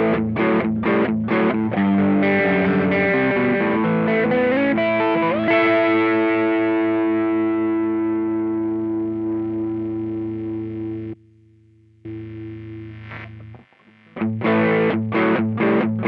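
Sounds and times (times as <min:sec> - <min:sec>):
overdriven electric guitar: 0:00.0 - 0:16.0.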